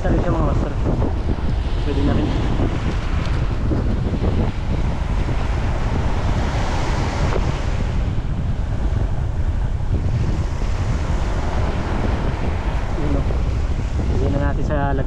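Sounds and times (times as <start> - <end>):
small waves washing up beach: 0.0 - 14.5
wind buffeting microphone: 0.0 - 15.0.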